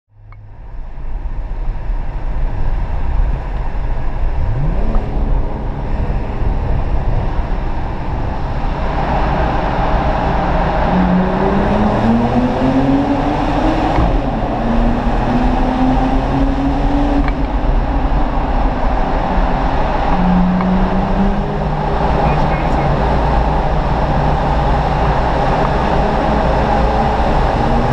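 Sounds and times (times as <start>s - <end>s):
car engine revving: 2.5s - 27.9s.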